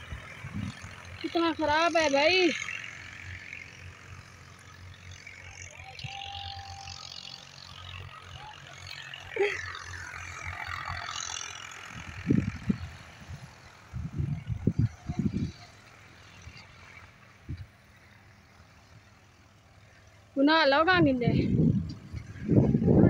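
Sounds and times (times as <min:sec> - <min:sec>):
vehicle rumble on rough road: 0:00.0 - 0:23.0.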